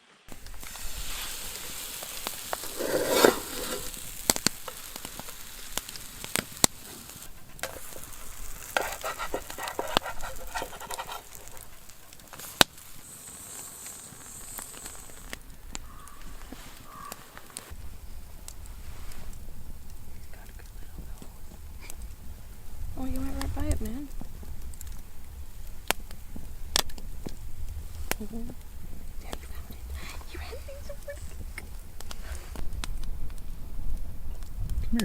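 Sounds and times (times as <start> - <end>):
food sizzling in a pan: 0.0 - 33.4.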